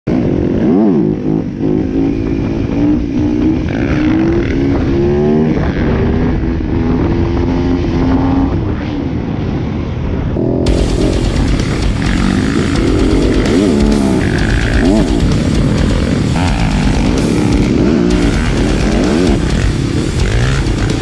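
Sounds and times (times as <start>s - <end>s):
dirt bike engine running: 0.1s - 8.1s, 10.4s - 21.0s
wind rushing over microphone: 0.1s - 20.8s.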